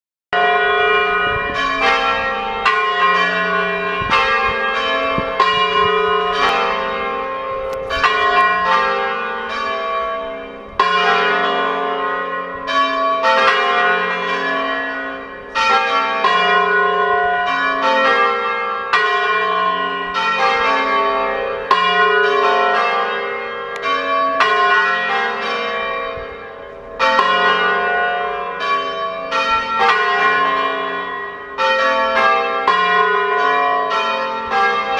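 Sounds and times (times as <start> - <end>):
church bells ringing: 0.3 - 34.9.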